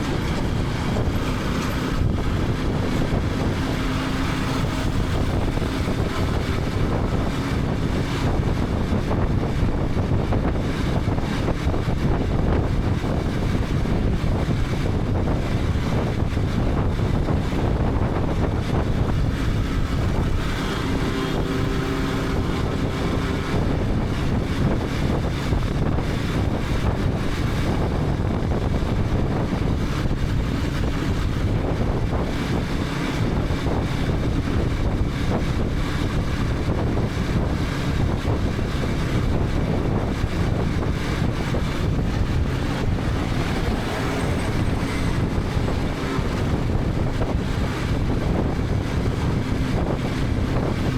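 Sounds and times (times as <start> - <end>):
motorcycle engine running: 0.0 - 14.3, 14.9 - 34.8, 36.9 - 50.9
road noise: 0.0 - 50.9
wind buffeting microphone: 0.0 - 50.9.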